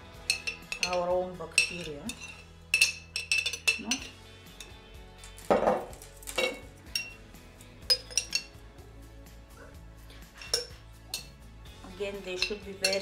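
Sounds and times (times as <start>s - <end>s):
metal spoon clinking glass jars: 0.1s - 8.6s, 10.2s - 11.5s, 12.1s - 13.0s.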